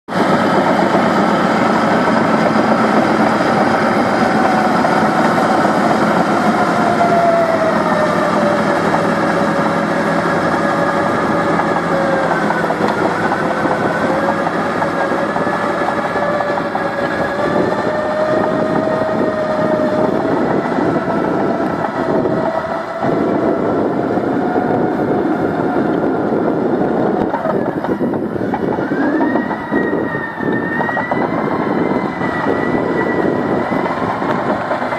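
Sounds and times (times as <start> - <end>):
bulldozer engine whining under load: 0.1 - 34.9.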